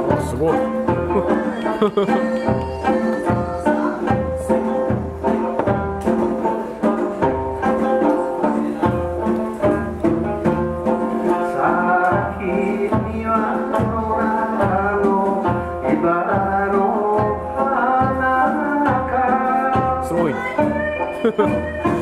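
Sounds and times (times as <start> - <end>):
plucked lute through a pa: 0.0 - 22.0.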